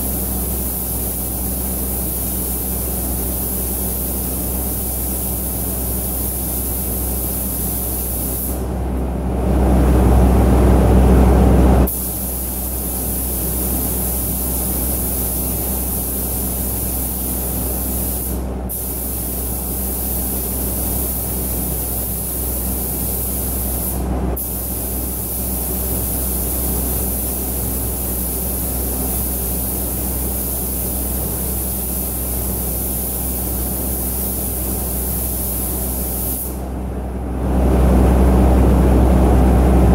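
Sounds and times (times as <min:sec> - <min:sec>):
paint spray gun hissing: 0:00.0 - 0:08.6, 0:11.9 - 0:36.6.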